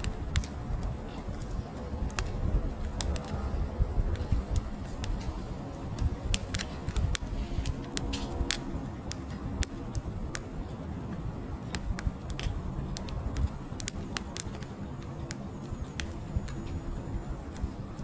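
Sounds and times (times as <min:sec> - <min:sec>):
fire crackling and popping: 0:00.0 - 0:18.0
low rush of flames: 0:00.0 - 0:18.0.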